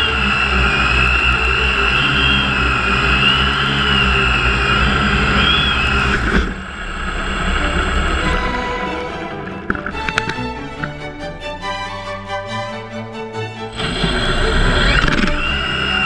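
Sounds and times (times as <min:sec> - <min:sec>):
small electric motor whining: 0:00.0 - 0:11.0, 0:13.7 - 0:16.0
wheels rumbling: 0:00.0 - 0:16.0.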